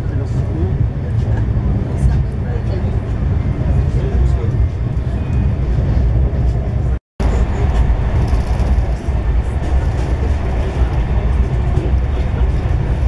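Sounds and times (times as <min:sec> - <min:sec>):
train coach rumble: 0:00.0 - 0:13.0.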